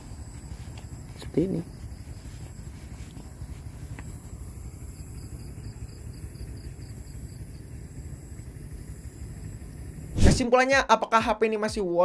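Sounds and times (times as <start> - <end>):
road rumble: 0.0 - 10.4.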